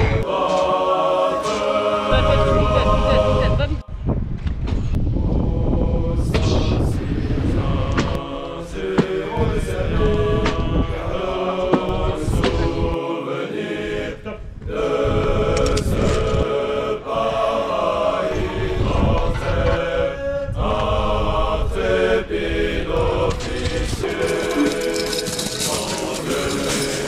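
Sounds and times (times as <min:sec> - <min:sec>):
choir-like chanting: 0:00.0 - 0:04.0, 0:05.0 - 0:27.0.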